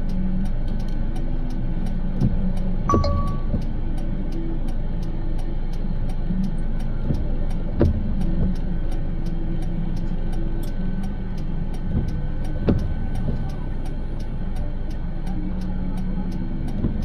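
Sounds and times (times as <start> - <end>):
music with high tick: 0.0 - 17.0
road rumble inside moving car: 0.0 - 17.0.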